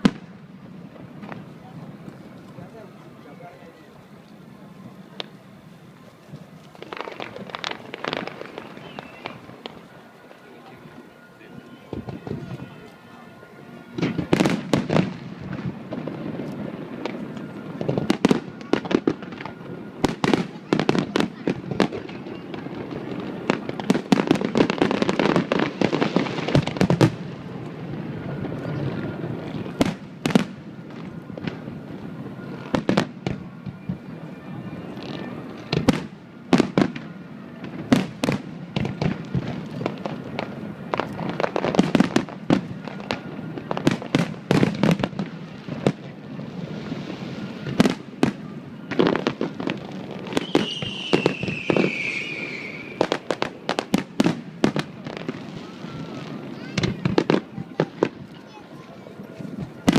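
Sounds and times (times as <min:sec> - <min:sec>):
fireworks bangs: 0:00.0 - 0:59.9
fireworks crackle and rumble: 0:00.0 - 0:59.9.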